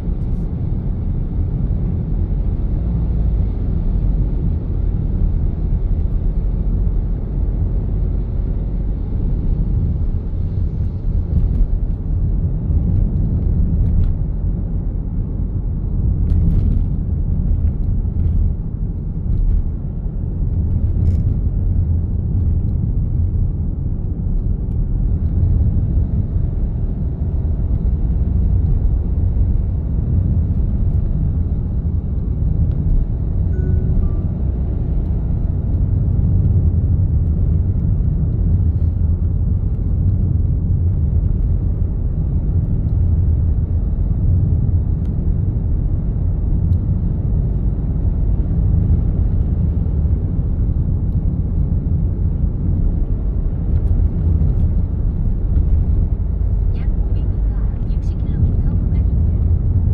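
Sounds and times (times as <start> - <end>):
passing traffic: 0.0 - 59.9
vehicle driving on road: 0.0 - 59.9.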